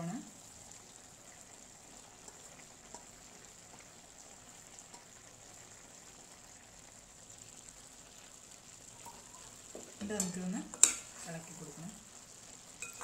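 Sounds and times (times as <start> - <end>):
pot simmering crackle: 0.0 - 13.0.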